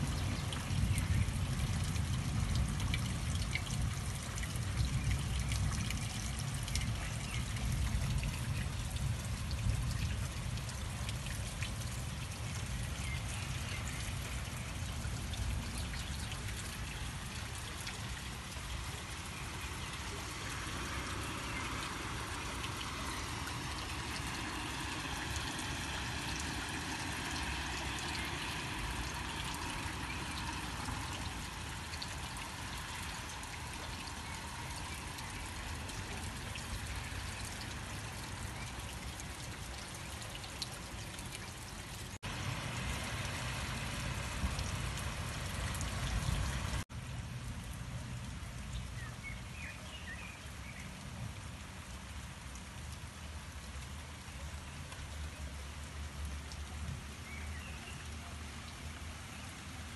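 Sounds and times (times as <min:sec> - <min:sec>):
rain falling: 0:00.0 - 0:59.9
water trickling and pouring: 0:00.0 - 0:59.9.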